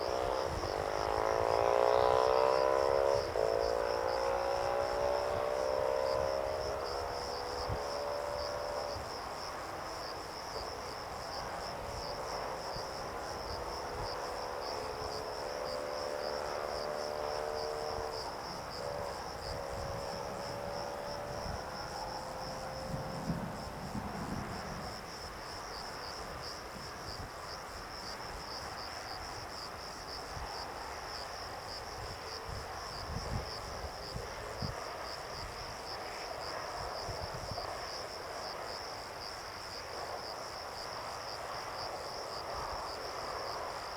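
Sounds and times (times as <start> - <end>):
insects chirping: 0.0 - 43.9.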